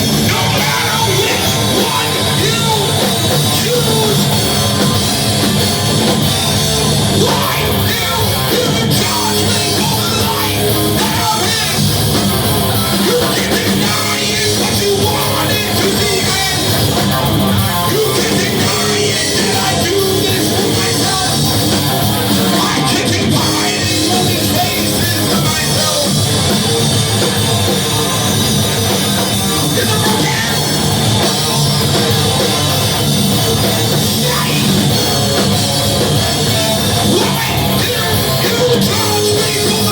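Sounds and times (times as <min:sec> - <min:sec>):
person singing: 0:00.0 - 0:05.0, 0:06.9 - 0:39.9
drum kit: 0:00.0 - 0:39.9
rock band playing live: 0:00.0 - 0:39.9.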